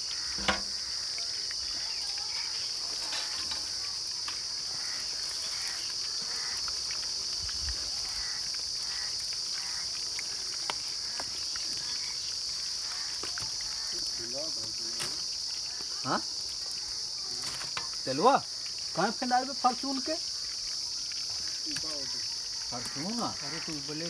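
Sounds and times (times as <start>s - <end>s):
oil hissing while deep-frying: 0.0s - 24.0s
oil popping and crackling: 0.0s - 24.0s.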